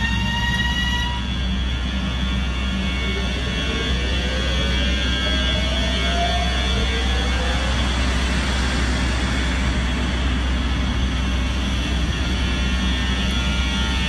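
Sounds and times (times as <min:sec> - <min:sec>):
electric locomotive passing: 0:00.0 - 0:14.0.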